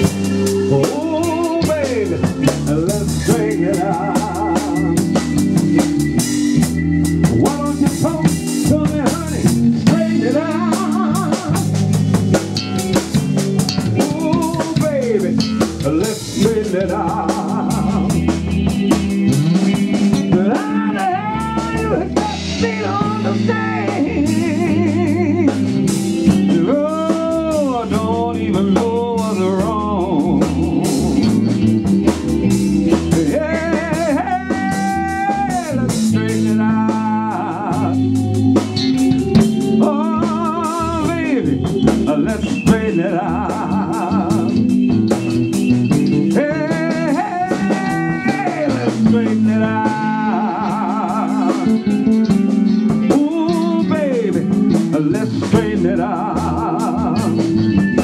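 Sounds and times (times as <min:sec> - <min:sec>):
bass: 0:00.0 - 0:58.0
electric guitar lead lines: 0:00.0 - 0:58.0.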